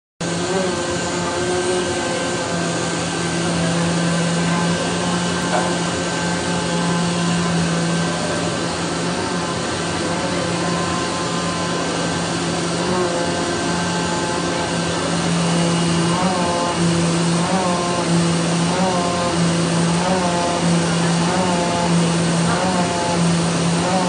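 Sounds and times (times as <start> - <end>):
cutting machine whirring hum: 0.2 - 24.0.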